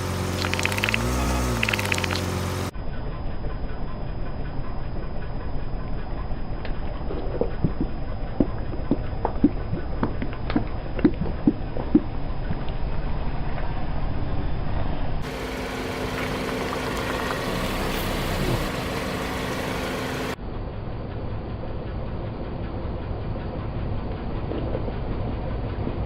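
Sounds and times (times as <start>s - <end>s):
car engine rumbling: 0.0s - 26.0s
steady hum: 0.0s - 26.0s.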